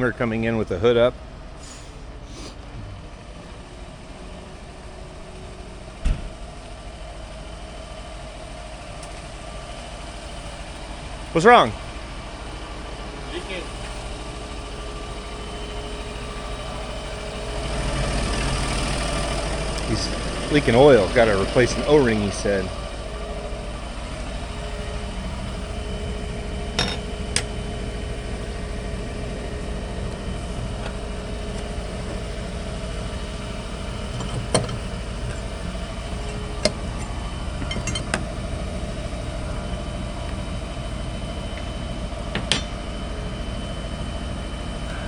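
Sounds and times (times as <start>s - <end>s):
engine idling: 0.0s - 45.0s.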